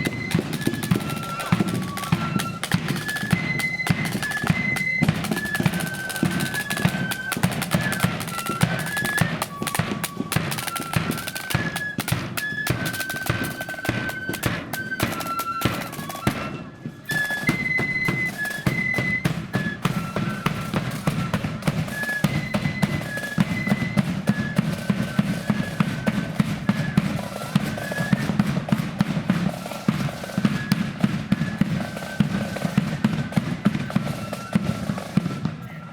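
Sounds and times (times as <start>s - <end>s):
flutes playing melody: 0.0s - 35.9s
rapid snare drumming: 0.0s - 35.9s.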